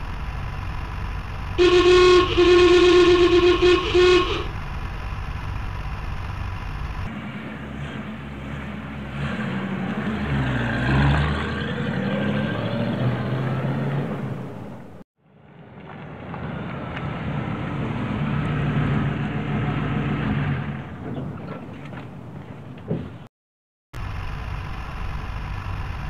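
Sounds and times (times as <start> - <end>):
old truck engine driving by: 0.0 - 23.3, 24.0 - 26.0.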